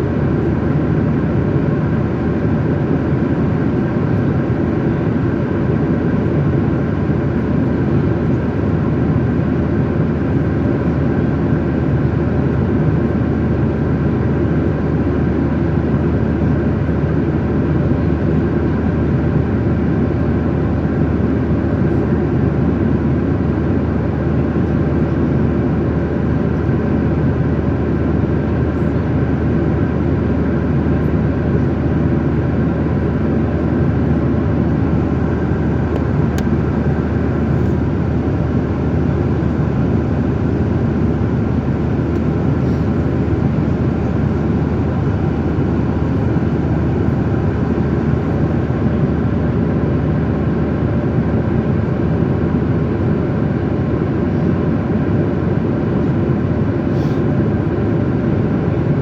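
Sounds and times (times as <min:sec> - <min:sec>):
airliner cabin engine and airflow rush: 0:00.0 - 0:59.0.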